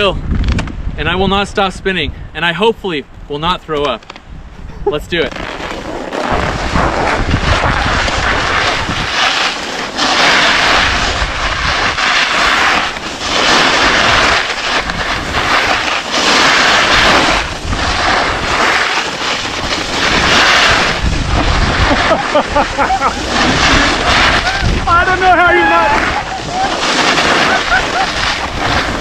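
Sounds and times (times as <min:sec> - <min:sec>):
wind on microphone: 0:00.0 - 0:02.4, 0:04.1 - 0:29.0
skis scraping on snow: 0:05.0 - 0:29.0.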